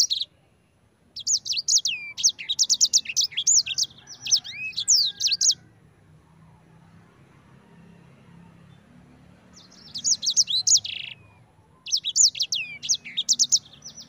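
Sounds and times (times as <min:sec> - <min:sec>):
songbird chirping and trilling: 0:00.0 - 0:14.0.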